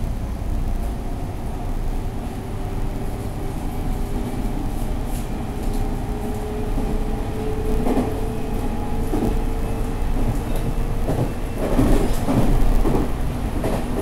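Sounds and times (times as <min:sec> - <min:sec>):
rumble of train wheels: 0:00.0 - 0:14.0.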